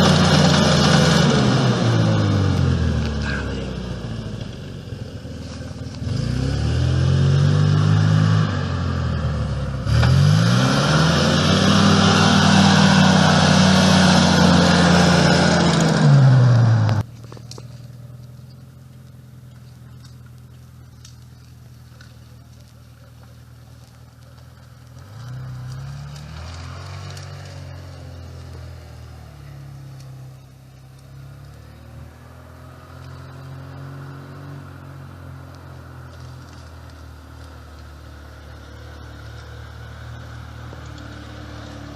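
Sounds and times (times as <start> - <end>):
off-road engine revving: 0.0 - 41.9.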